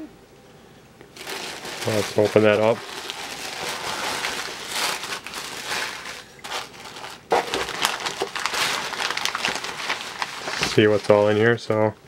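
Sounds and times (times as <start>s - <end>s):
wrapping paper crinkling: 1.1s - 11.6s
plastic bags rustling: 1.1s - 11.7s.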